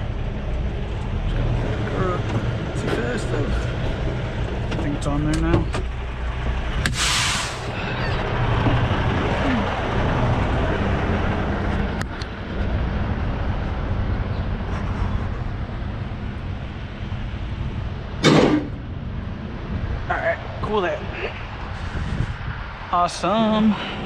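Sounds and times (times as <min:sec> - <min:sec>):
diesel engine running: 0:00.0 - 0:20.1.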